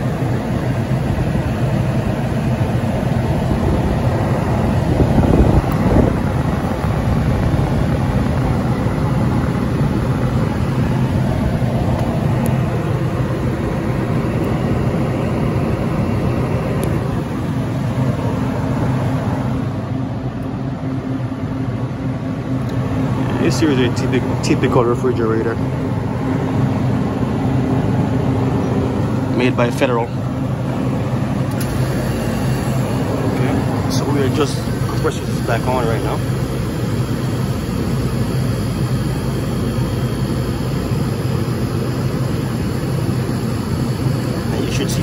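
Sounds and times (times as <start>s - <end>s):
machinery hum with fan rush: 0.0s - 45.0s.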